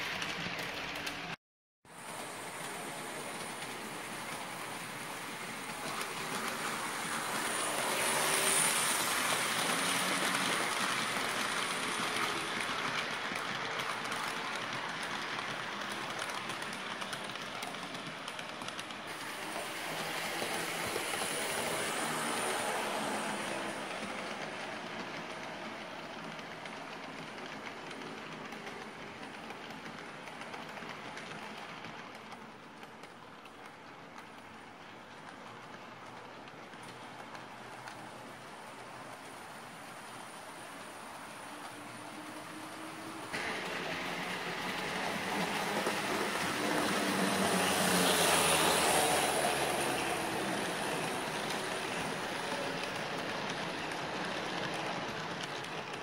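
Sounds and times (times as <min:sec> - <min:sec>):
model train wheels rumbling: 0:02.0 - 0:56.0.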